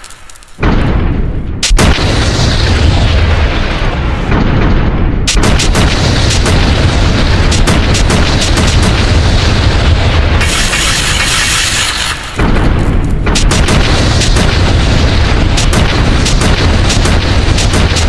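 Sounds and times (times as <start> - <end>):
sharp crack: 0.0 - 1.0, 1.6 - 4.4, 5.2 - 18.0
crackles: 0.0 - 18.0
explosion rumble: 0.0 - 18.0.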